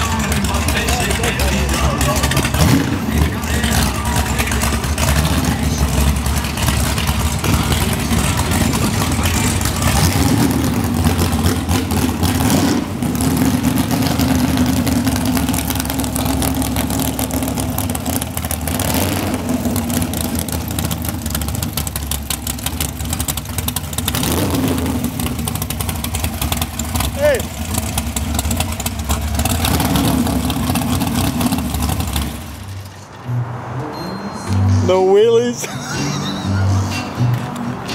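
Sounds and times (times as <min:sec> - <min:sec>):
loud lumpy engine running: 0:00.0 - 0:33.3.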